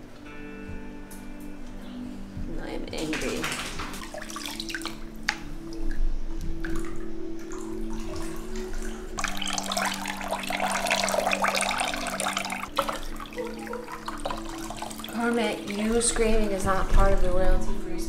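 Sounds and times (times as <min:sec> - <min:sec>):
bathwater splashing and running: 0:02.8 - 0:17.8.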